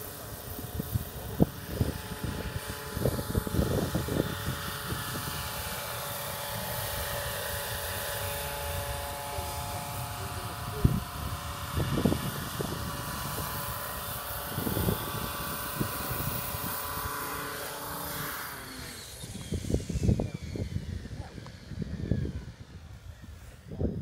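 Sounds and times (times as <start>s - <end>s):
model helicopter rotors and motor whine: 0.0s - 24.0s
wind buffeting microphone: 0.0s - 24.0s.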